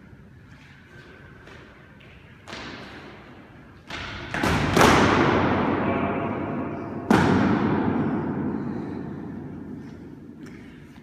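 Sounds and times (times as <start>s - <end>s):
echo in hard-walled court: 0.0s - 11.0s.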